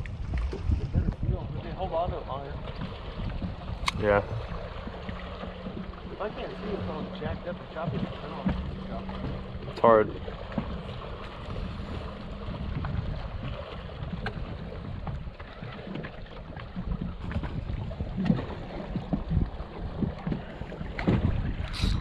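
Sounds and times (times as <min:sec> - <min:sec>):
water slapping against boat: 0:00.0 - 0:22.0
wind buffeting microphone: 0:00.0 - 0:22.0.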